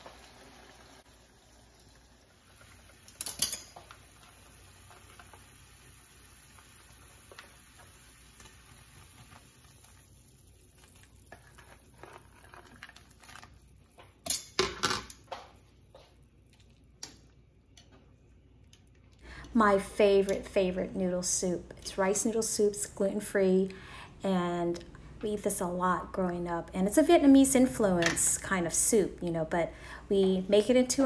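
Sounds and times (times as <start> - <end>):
faint hiss of cooking: 0.0 - 31.0.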